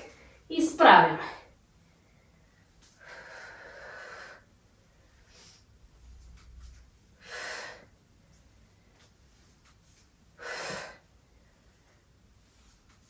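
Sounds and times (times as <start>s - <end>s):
woman breathing: 1.4s - 12.9s.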